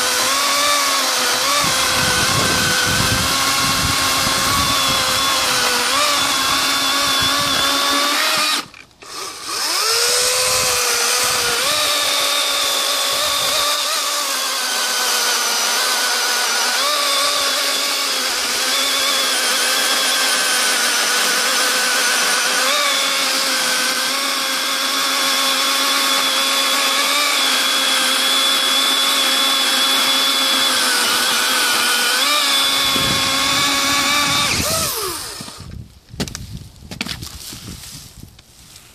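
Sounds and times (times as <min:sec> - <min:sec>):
electric chainsaw cutting log: 0:00.0 - 0:36.4.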